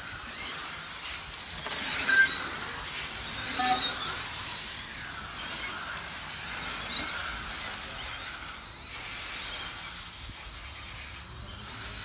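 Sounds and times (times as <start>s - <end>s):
rc car motor whine: 0.0s - 12.0s.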